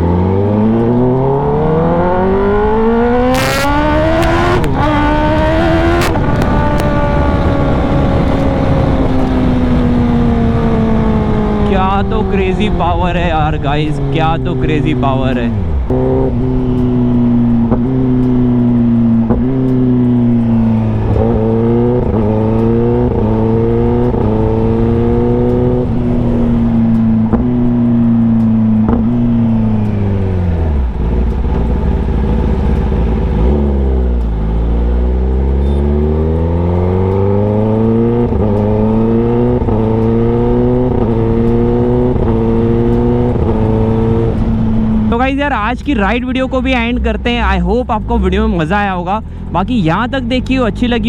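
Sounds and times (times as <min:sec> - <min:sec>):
motorcycle accelerating and shifting: 0:00.0 - 0:51.0.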